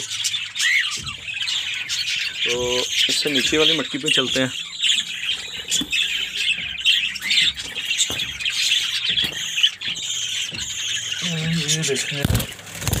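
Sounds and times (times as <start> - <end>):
budgerigars chattering and squawking: 0.0 - 13.0.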